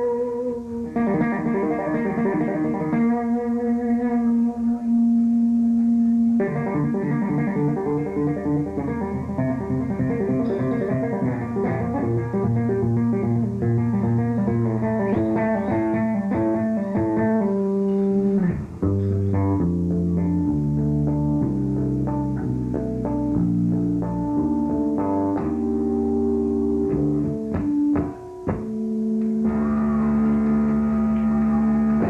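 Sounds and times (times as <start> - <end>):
electric bass guitar solo: 0.0 - 32.0.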